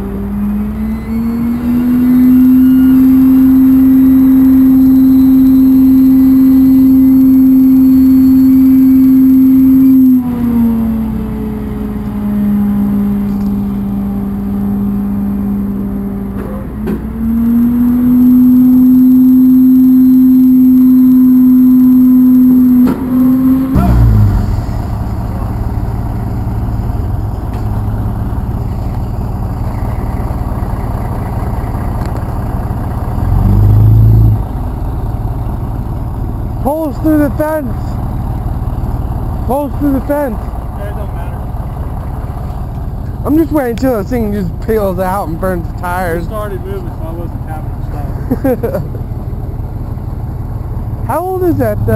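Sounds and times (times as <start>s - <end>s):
heavy truck engine running: 0.0s - 51.9s.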